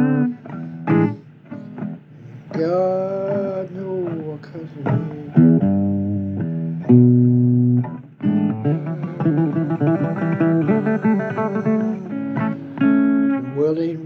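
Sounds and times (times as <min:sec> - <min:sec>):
blues guitar playing: 0:00.0 - 0:14.0.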